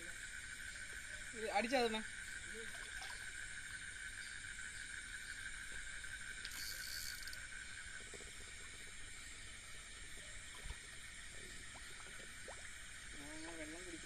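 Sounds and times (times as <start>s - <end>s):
insect buzz: 0.0s - 14.0s
night insects trilling: 0.0s - 14.0s.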